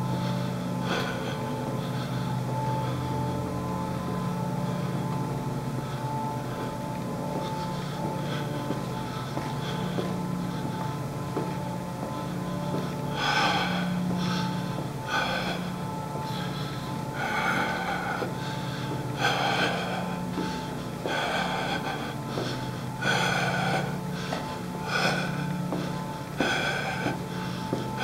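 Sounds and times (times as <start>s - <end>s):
heavy rapid breathing: 0.0s - 28.0s
steady low hum: 0.0s - 28.0s.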